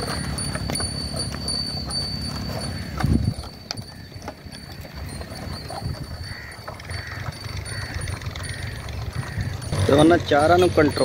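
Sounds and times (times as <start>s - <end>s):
hooves stepping: 0.0s - 11.0s
plough pulled through soil: 0.0s - 11.0s.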